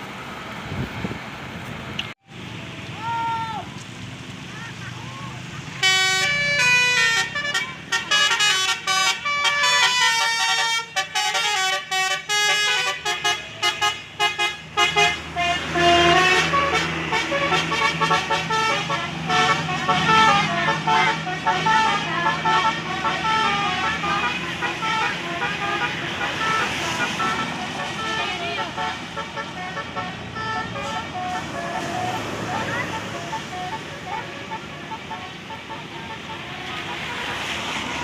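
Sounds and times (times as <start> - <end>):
bus horn playing a tune: 5.8 - 38.0.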